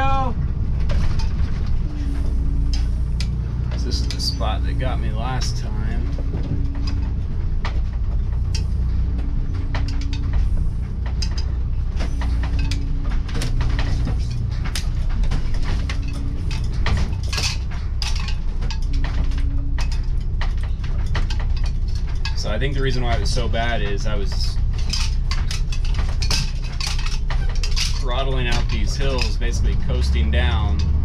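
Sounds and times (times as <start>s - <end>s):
bus diesel engine rumbling: 0.0s - 31.0s
rattles and clatters of fittings: 0.0s - 31.0s.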